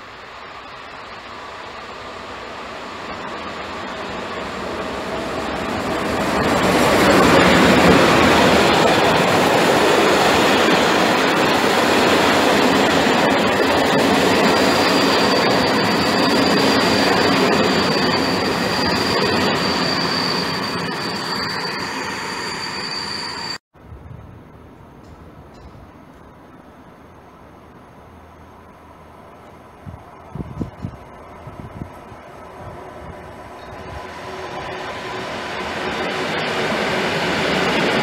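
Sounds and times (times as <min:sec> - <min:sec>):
high steady train squeal: 0:00.0 - 0:23.6, 0:25.0 - 0:38.0
wheels rumbling on rail: 0:00.0 - 0:38.0.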